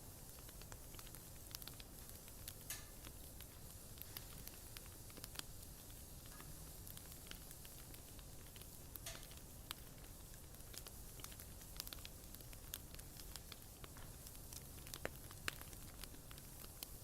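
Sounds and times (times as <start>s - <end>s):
bonfire crackling and popping: 0.0s - 17.0s
fire low rumble: 0.0s - 17.0s.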